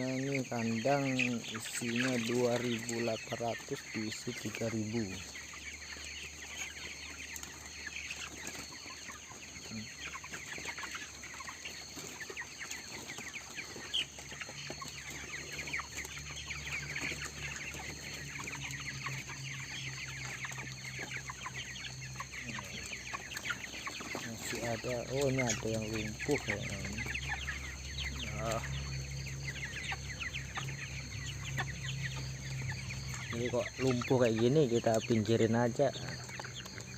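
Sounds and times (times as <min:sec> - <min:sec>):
chickens peeping and clucking: 0:00.0 - 0:36.9.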